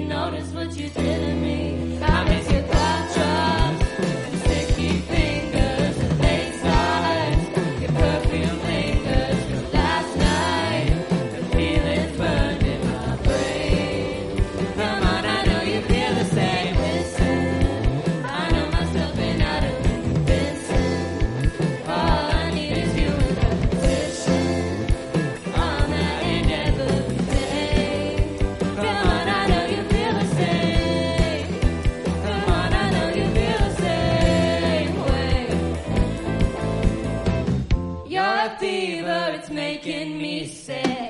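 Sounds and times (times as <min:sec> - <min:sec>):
choir-like vocals: 0:00.0 - 0:36.1, 0:38.0 - 0:41.0
song with drum beat: 0:02.0 - 0:38.1.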